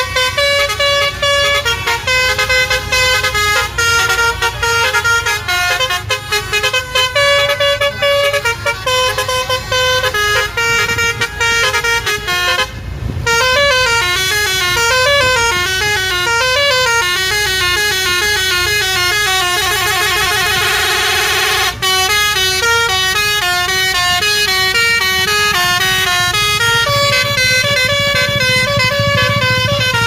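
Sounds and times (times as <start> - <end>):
musical bus horn tune: 0.0 - 30.0.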